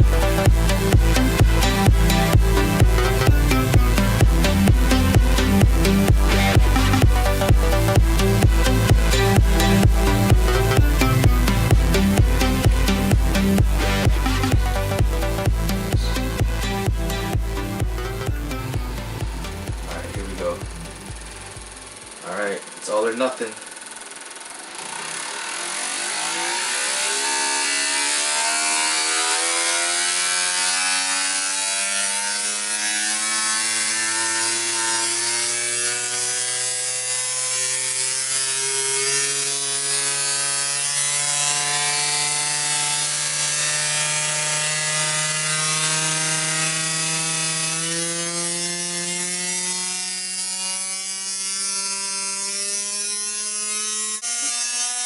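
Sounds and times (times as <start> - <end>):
motor whine: 0.0 - 55.0.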